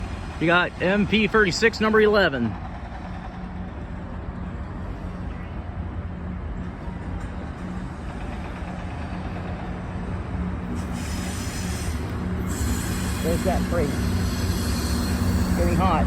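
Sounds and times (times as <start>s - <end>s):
diesel locomotive droning: 0.0s - 16.0s.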